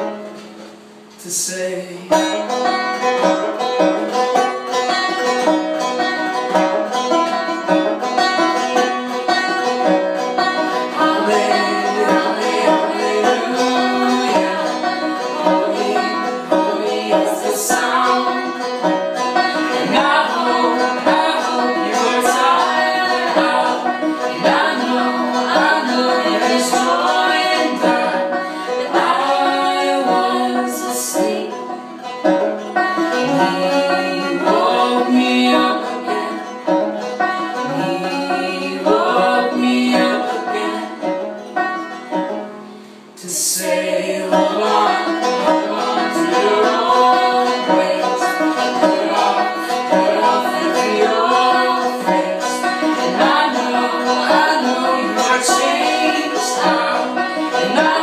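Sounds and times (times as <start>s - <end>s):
banjo picking: 0.0s - 58.0s
man and woman singing: 1.2s - 3.2s, 10.4s - 32.0s, 32.9s - 41.2s, 43.2s - 58.0s.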